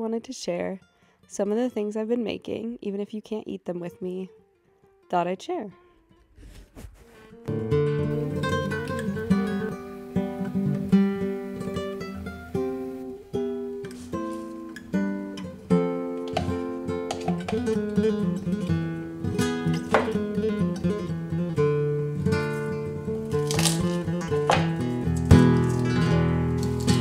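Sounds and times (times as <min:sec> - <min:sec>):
acoustic guitar music: 0:03.4 - 0:27.0.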